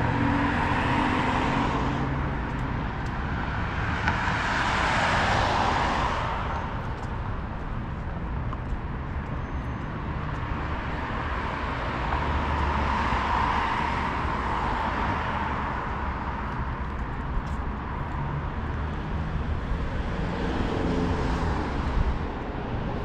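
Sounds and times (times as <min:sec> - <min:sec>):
cars passing: 0:00.0 - 0:23.0
low traffic rumble: 0:00.0 - 0:23.0.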